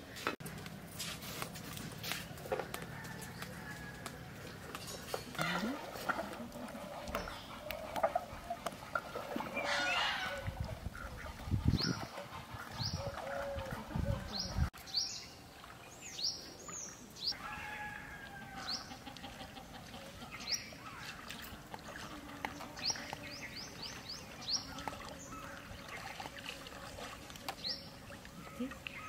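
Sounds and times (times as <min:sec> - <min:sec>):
birds chirping: 0:02.2 - 0:26.5, 0:27.5 - 0:29.0.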